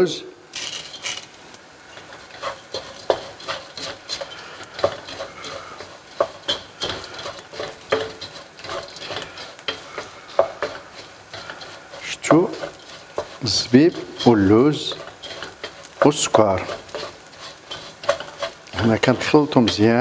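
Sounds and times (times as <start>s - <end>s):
wooden spatula scraping pan: 0.6s - 20.0s.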